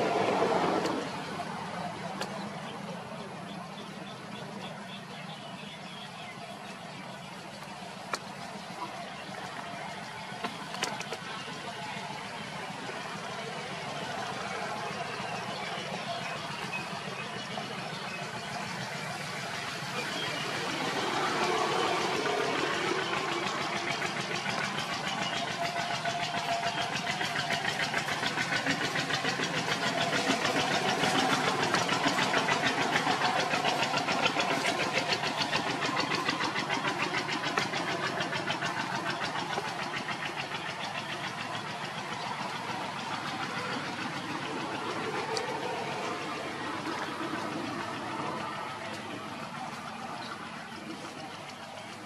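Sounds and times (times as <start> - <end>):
engine pulsing rapidly: 0.0 - 52.0.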